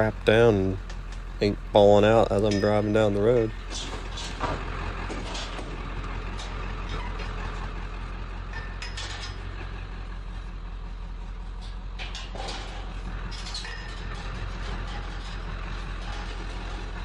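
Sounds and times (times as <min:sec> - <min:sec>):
road noise: 0:00.0 - 0:17.0
truck engine hum: 0:00.0 - 0:17.0.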